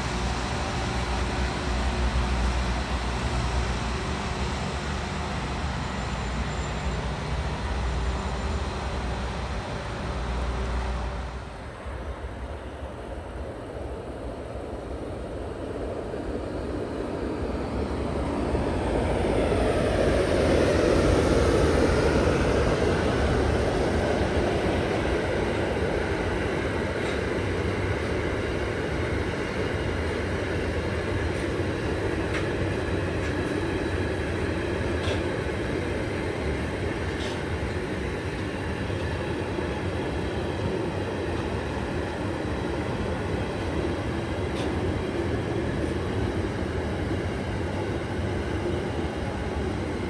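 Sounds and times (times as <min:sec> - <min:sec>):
train running past: 0:00.0 - 0:50.0.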